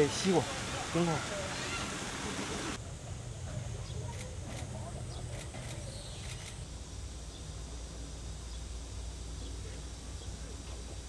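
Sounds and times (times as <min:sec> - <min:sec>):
low outdoor rumble: 0:00.5 - 0:11.0.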